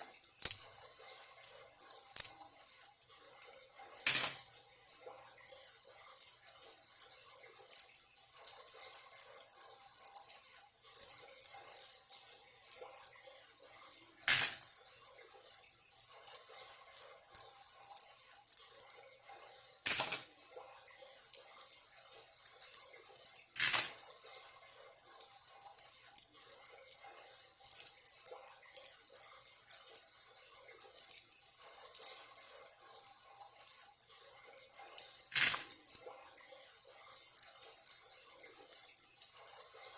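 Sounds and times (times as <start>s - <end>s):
coins clinking: 0.0s - 19.0s, 19.8s - 39.9s
faint running water: 0.0s - 39.9s.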